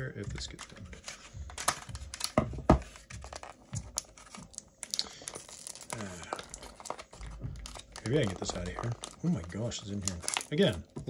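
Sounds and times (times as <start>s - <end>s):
plastic packaging crinkling: 0.2s - 11.0s.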